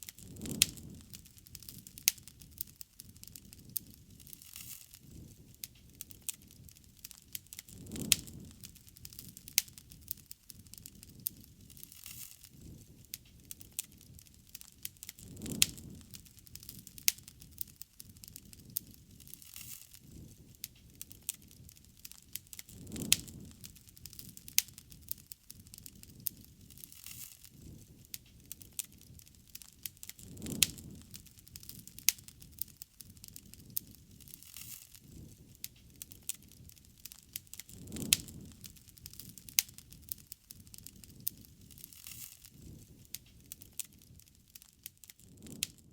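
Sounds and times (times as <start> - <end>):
bonfire crackling: 0.0 - 45.9
low rush of flames: 0.0 - 45.9.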